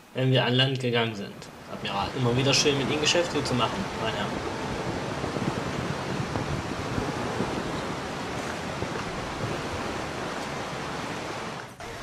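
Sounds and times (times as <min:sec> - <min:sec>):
wind: 0:00.0 - 0:12.0
ocean waves and surf: 0:01.6 - 0:12.0.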